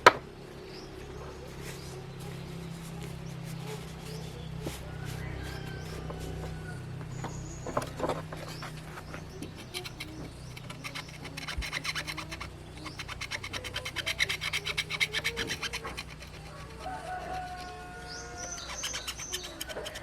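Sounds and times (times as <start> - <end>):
rapid scrubbing strokes: 1.0 - 20.0.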